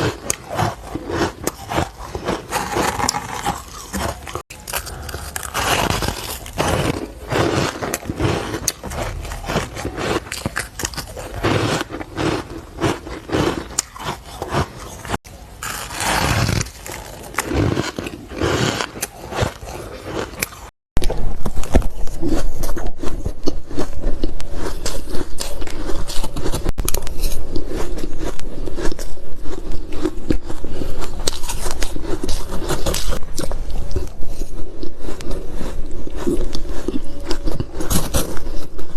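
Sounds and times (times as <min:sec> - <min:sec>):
crunching and biting of ice: 0:00.0 - 0:38.9.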